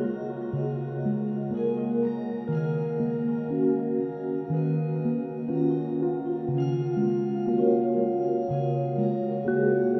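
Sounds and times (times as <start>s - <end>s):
calm ambient instrumental music: 0.0s - 9.9s.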